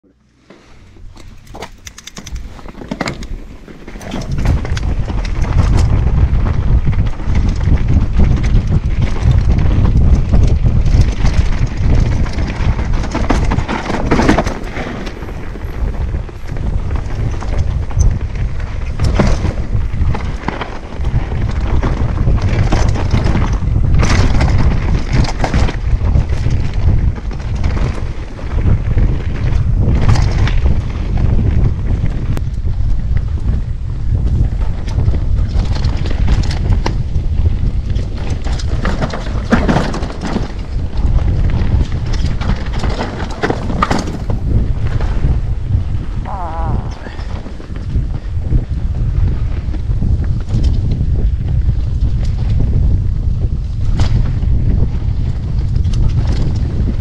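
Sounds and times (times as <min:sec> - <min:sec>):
wind buffeting microphone: 0:00.0 - 0:57.0
bike rattling over rocks: 0:01.0 - 0:57.0.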